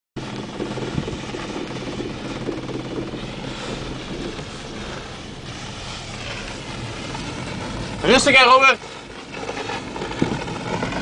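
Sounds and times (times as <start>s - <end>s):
pickup engine running: 0.2s - 11.0s
tyres on snowy road: 0.2s - 11.0s.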